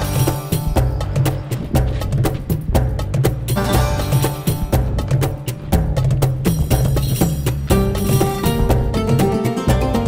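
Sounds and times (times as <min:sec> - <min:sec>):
low bass line: 0:00.0 - 0:10.0
sharp percussion strikes: 0:00.0 - 0:10.0.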